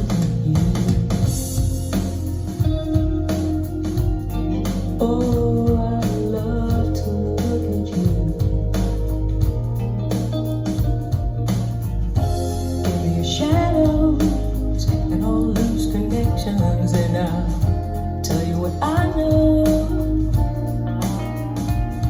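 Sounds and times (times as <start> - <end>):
bass line: 0.0 - 22.0
song with guitar and vocals: 0.0 - 22.0.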